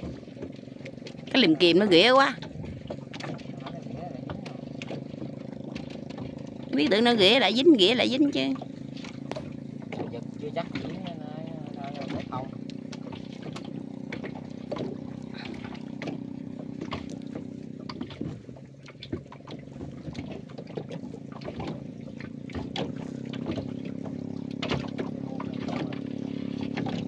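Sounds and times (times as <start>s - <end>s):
boat engine running: 0.0s - 27.0s
water trickling and dripping: 0.0s - 27.0s.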